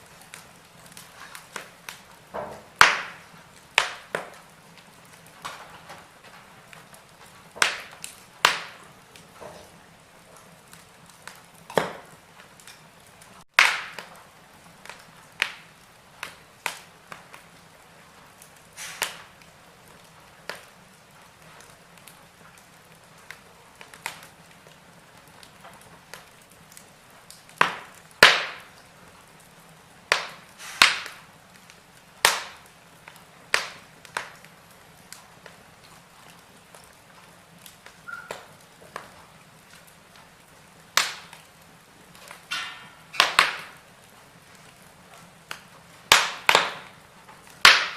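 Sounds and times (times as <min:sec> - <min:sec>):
flames burning: 0:00.0 - 0:47.9
wood fire crackling and popping: 0:00.0 - 0:47.9.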